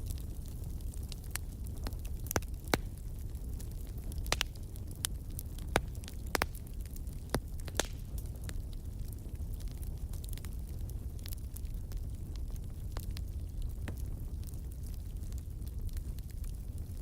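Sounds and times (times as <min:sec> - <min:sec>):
campfire crackling and popping: 0:00.0 - 0:17.0
low rumble of fire: 0:00.0 - 0:17.0.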